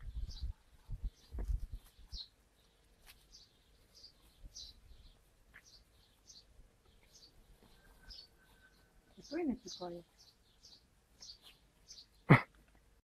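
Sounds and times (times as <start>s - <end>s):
small bird chirping: 0.0s - 12.3s.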